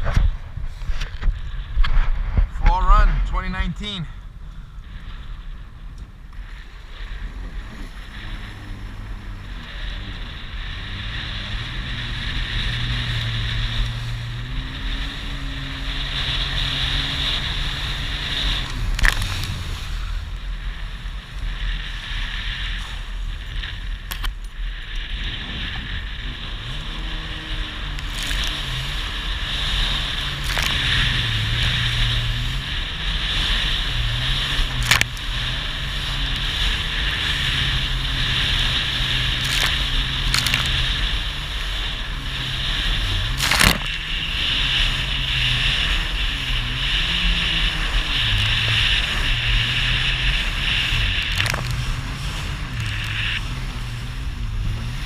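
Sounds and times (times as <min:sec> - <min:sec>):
jet ski engine running: 0:00.0 - 0:55.0
rush of water and wind: 0:00.0 - 0:55.0.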